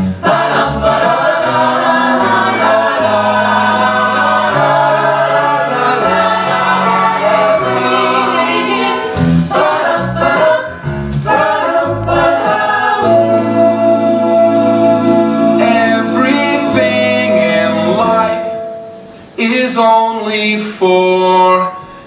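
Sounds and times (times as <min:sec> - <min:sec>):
cast singing with band: 0:00.1 - 0:19.4.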